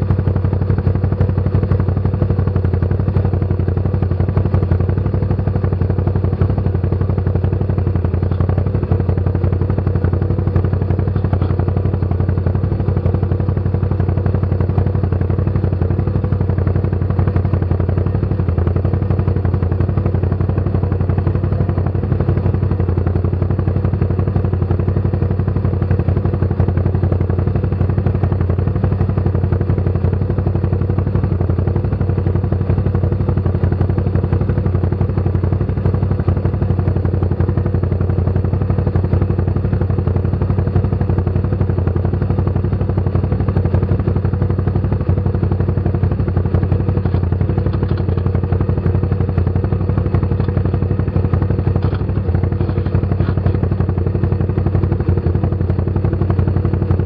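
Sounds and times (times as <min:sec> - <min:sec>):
atv engine droning steadily: 0:00.0 - 0:57.0.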